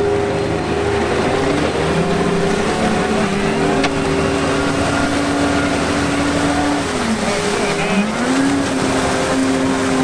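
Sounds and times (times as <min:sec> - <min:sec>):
diesel engine revving: 0:00.0 - 0:10.0.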